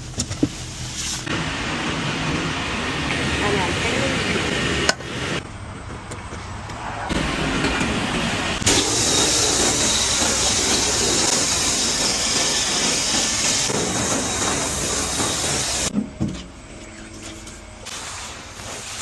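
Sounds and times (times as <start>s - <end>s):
water jets spraying a car: 0.0s - 15.9s, 17.8s - 19.0s.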